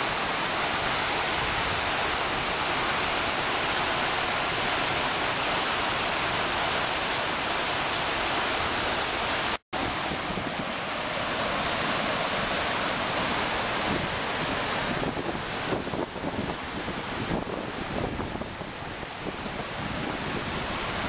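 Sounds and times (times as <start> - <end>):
water rushing over boulders: 0.0 - 21.0.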